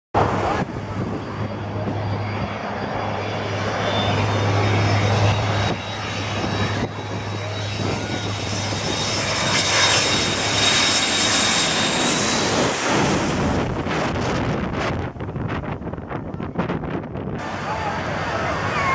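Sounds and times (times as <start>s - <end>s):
jet airliner passing overhead: 0.2s - 18.9s.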